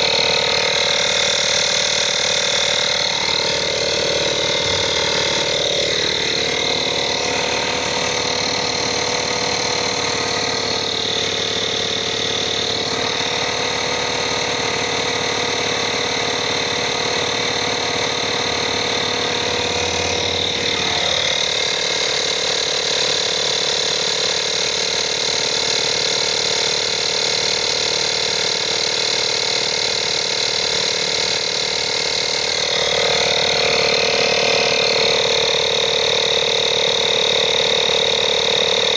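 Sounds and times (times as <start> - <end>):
tyre inflator pump running: 0.0 - 38.9.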